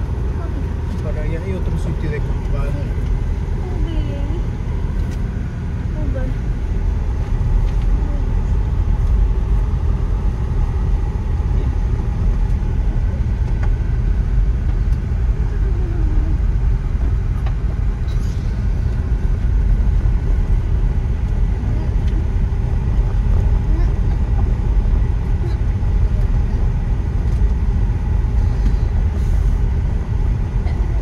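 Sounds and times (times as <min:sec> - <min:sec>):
car driving on gravel road: 0:00.0 - 0:31.0.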